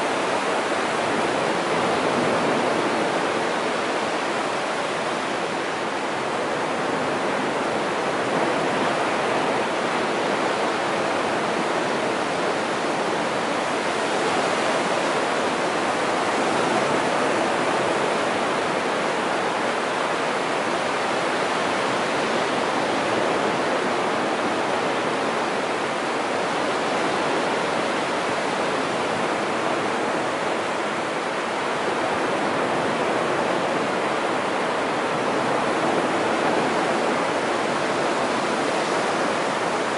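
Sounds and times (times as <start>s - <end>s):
waves washing on sand beach: 0.0s - 39.9s.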